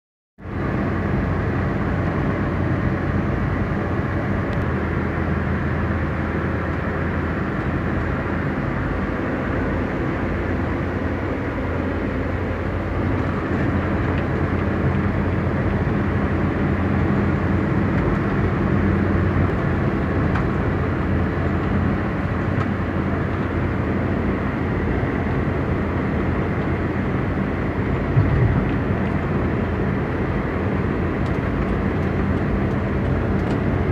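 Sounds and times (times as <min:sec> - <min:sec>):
car engine hum: 0:00.4 - 0:33.9
road noise: 0:00.4 - 0:33.9.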